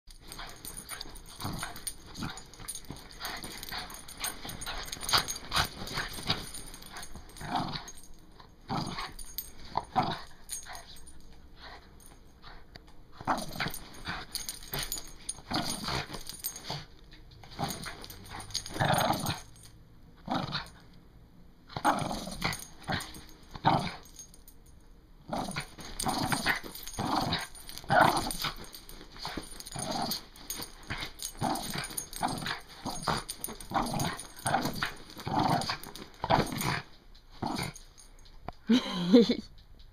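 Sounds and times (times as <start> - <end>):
dog growling while playing: 0.2 - 8.1, 8.7 - 11.9, 13.2 - 16.9, 17.5 - 19.6, 20.2 - 20.8, 21.7 - 24.2, 25.2 - 38.1.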